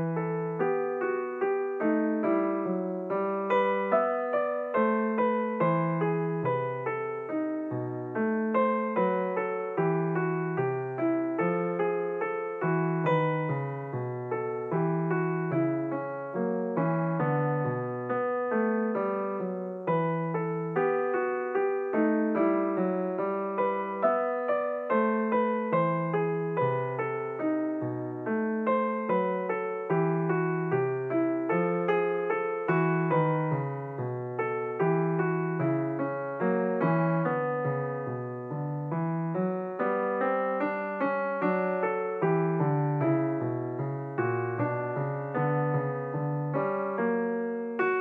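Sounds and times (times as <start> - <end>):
piano playing a run of notes: 0.0 - 48.0.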